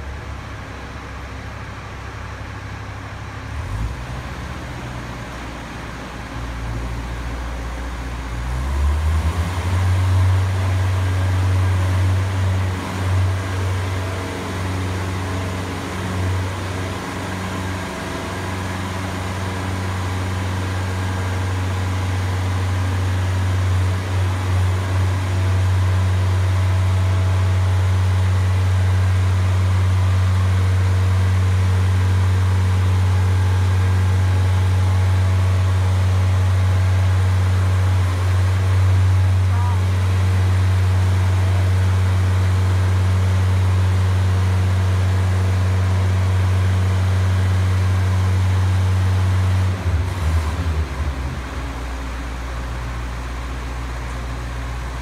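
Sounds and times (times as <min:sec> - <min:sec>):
boom lift motor droning: 0:00.0 - 0:55.0.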